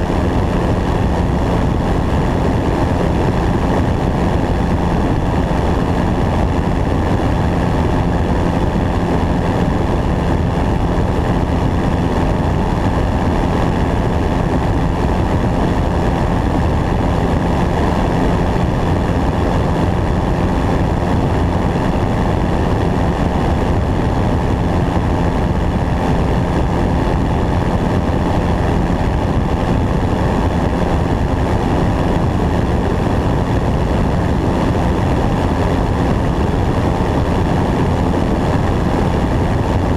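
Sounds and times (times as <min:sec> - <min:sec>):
aircraft engine and propeller: 0:00.0 - 0:39.9
wind rushing over microphone: 0:00.0 - 0:39.9.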